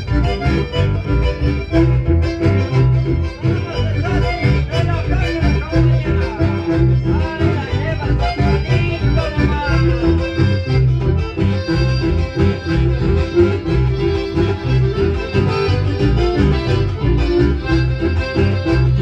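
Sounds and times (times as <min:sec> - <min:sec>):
accordion: 0:00.0 - 0:19.0
live band music over pa: 0:00.0 - 0:19.0
steady bass beat: 0:00.0 - 0:19.0.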